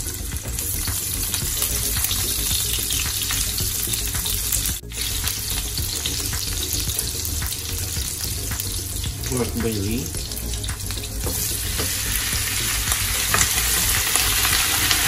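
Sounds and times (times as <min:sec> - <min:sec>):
onion and garlic sizzling in oil: 0:00.0 - 0:15.0.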